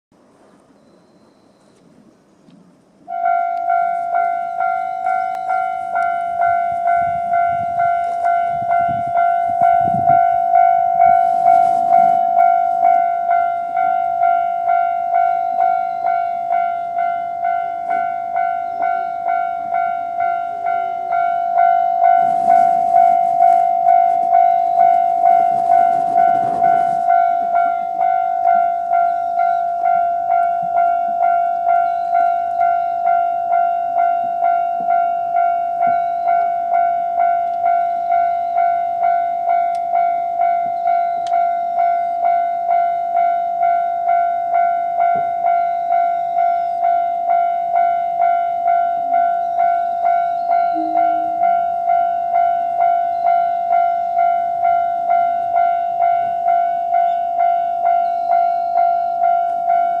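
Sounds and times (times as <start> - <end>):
level-crossing bell: 3.1 - 60.0.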